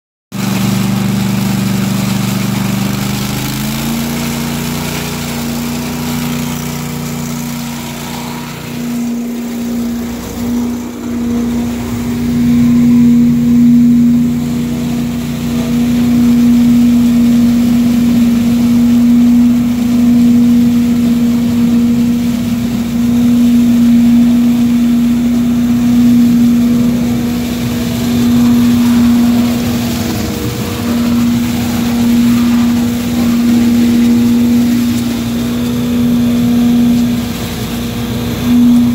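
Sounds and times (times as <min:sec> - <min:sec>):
engine and vacuum fan running: 0:00.3 - 0:38.9
leaves sucked through hose: 0:00.4 - 0:38.9.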